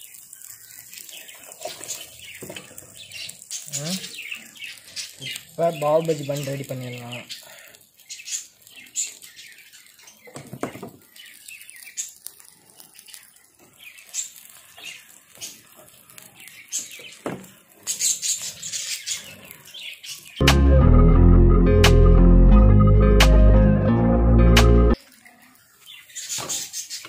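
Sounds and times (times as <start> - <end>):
small birds chirping: 0.0 - 20.4, 24.8 - 27.0.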